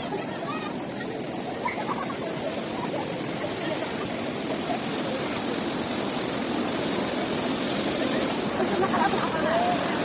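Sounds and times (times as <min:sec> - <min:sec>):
stream flowing and cascading: 0:00.0 - 0:10.0.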